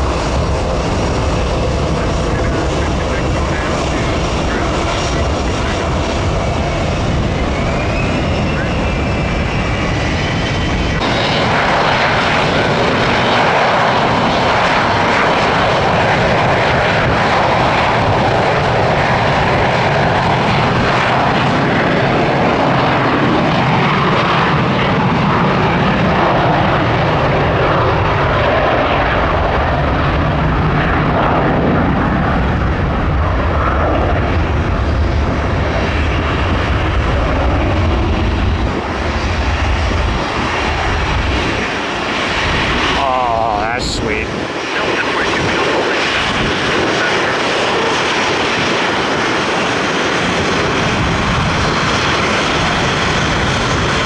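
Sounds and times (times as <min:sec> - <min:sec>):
jet engines at takeoff power: 0:00.0 - 0:54.0.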